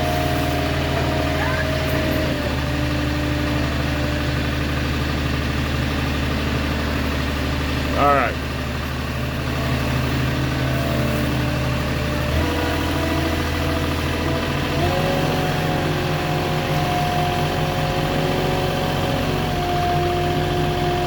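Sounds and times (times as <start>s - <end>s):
forklift engine running: 0.0s - 21.0s.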